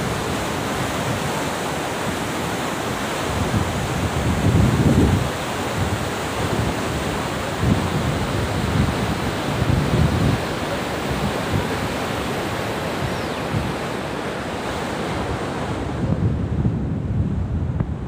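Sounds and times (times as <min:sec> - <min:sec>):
flood water rushing: 0:00.0 - 0:16.1.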